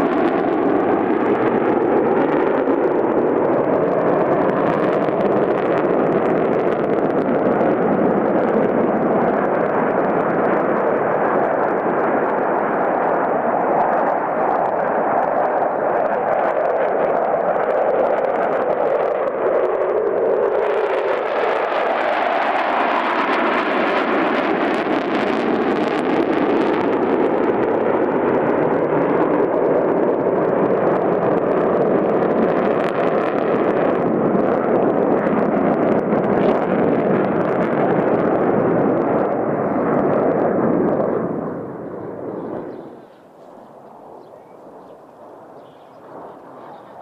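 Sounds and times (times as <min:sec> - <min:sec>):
fighter jets passing overhead: 0:00.0 - 0:47.0.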